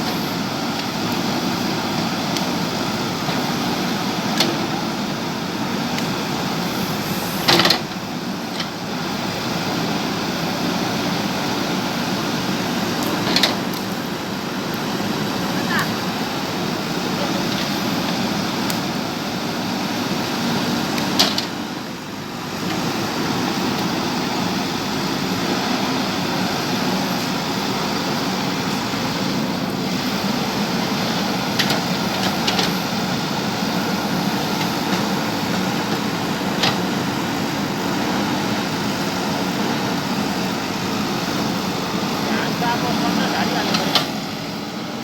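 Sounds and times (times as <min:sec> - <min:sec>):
backhoe diesel engine running: 0:00.0 - 0:45.0.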